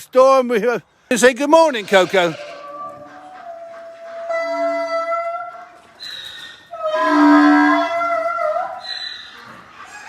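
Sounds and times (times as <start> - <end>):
roosters crowing: 1.8 - 10.0.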